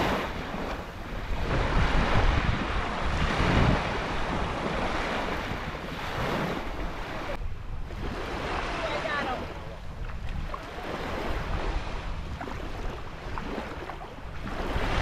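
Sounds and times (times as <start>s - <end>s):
small waves lapping on sand: 0.0s - 15.0s
wind buffeting the microphone: 0.0s - 15.0s.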